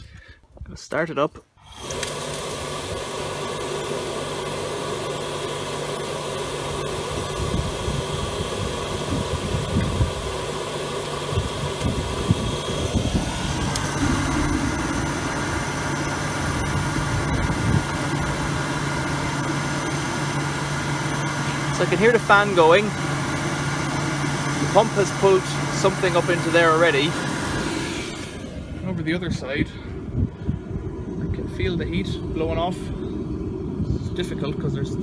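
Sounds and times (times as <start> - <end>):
oil boiler burner humming: 1.6 - 35.0.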